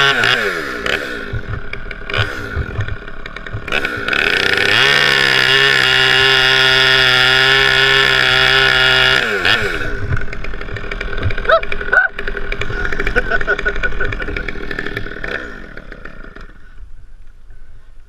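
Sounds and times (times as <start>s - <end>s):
chainsaw revving: 0.0s - 16.8s.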